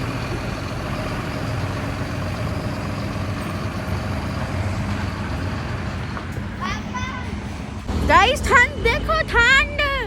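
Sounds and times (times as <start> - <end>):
road noise: 0.0 - 10.0
vehicle engine drone: 0.0 - 10.0.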